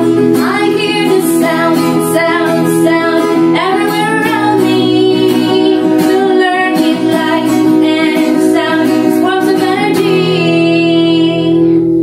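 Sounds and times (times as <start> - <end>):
woman singing: 0.0 - 11.8
acoustic guitar: 0.0 - 12.0.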